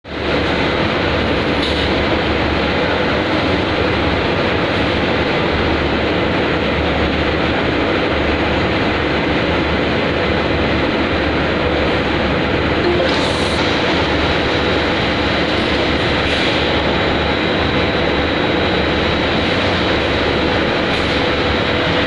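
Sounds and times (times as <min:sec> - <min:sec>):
factory machinery noise: 0:00.1 - 0:22.0.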